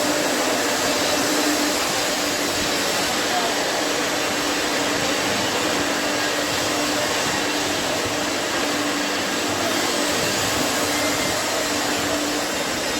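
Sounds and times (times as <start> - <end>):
rushing roar of plant machinery: 0.0 - 12.9.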